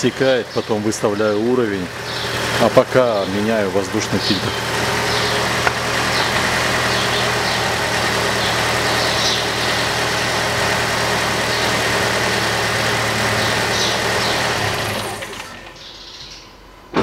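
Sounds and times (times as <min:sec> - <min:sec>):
car engine idling with faint whine: 0:00.0 - 0:16.3.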